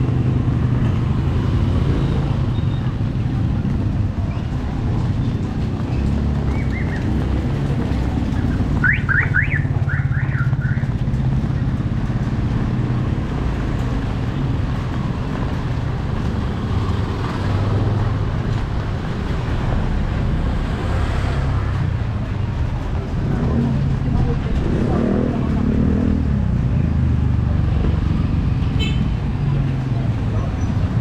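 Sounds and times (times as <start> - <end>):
vehicle engine running: 2.8 - 28.5.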